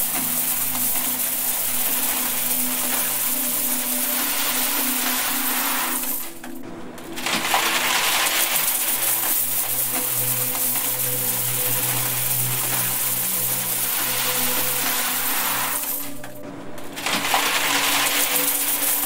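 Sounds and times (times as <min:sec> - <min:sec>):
coins clattering into metal box: 0:00.0 - 0:06.6, 0:07.2 - 0:16.3, 0:17.0 - 0:19.0.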